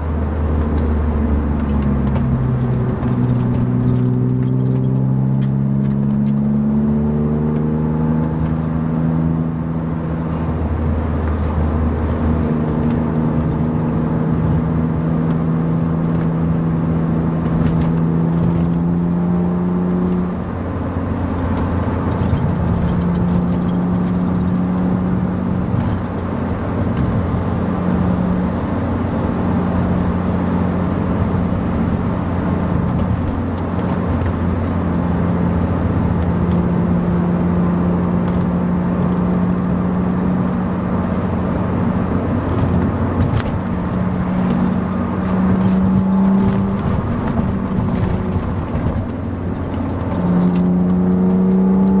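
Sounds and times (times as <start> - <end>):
car engine cruising: 0.0 - 52.0
road noise: 0.0 - 52.0.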